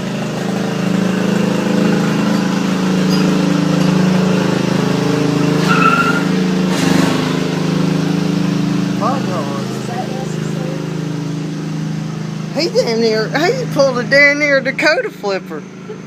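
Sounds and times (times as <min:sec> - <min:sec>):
riding lawn mower engine: 0:00.0 - 0:16.0.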